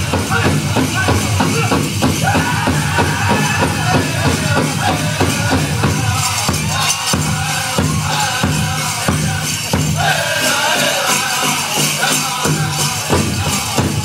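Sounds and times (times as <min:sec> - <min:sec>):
drum group singing: 0:00.0 - 0:14.0
high vocal line: 0:00.0 - 0:14.0
steady big drum beat: 0:00.0 - 0:14.0.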